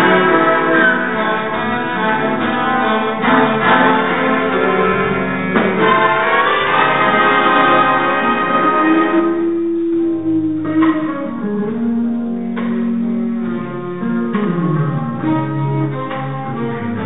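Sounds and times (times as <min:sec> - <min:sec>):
jazz ensemble slow ballad: 0:00.0 - 0:17.0.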